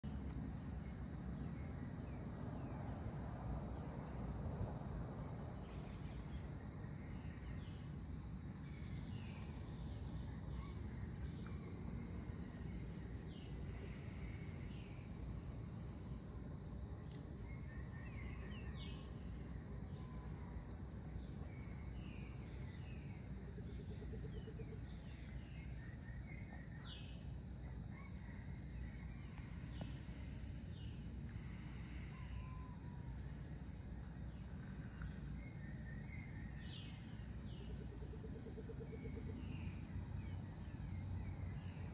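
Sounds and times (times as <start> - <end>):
low steady rumble: 0.0 - 41.9.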